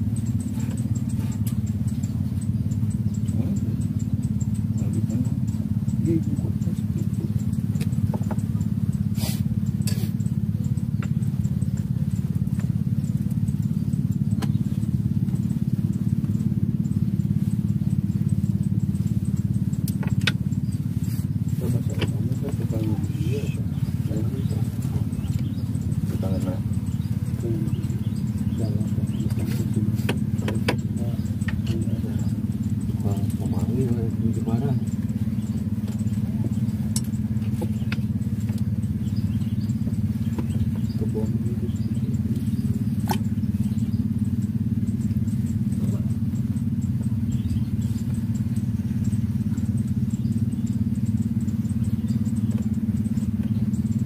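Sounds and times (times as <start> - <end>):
motor droning: 0.0 - 54.0
small engine running: 0.0 - 54.0.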